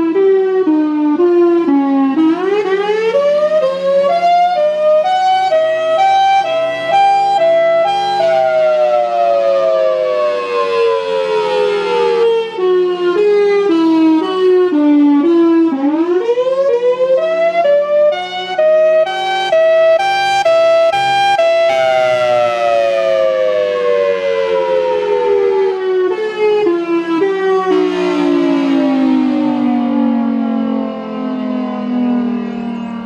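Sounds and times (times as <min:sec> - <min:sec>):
outdoor warning sirens wailing: 0:00.0 - 0:33.0.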